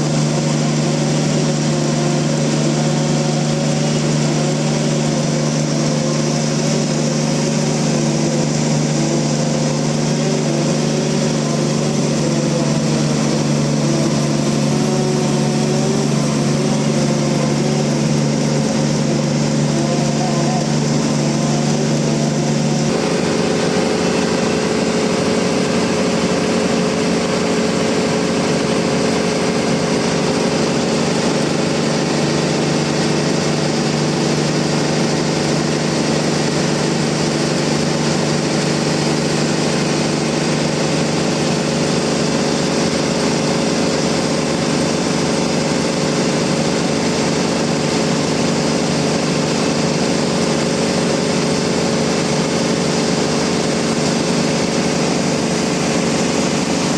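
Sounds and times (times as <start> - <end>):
bandsaw mill running: 0.0 - 56.9.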